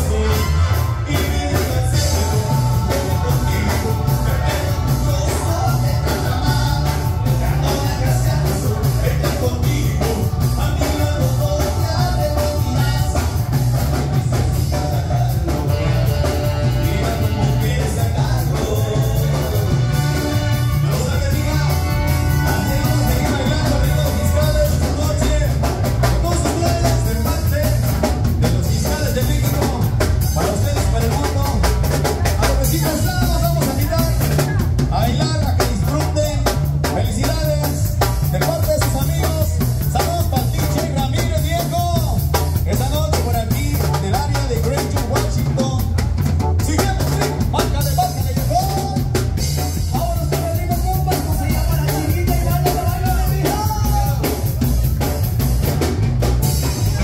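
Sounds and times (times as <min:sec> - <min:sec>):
drum kit beat: 0:00.0 - 0:57.0
electric bass: 0:00.0 - 0:57.0
keyboard: 0:00.0 - 0:57.0.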